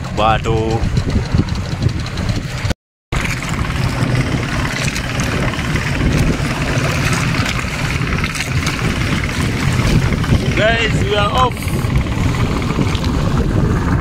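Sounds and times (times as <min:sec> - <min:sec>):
motorboat engine running: 0:00.0 - 0:14.0
water splashing along hull: 0:00.0 - 0:14.0.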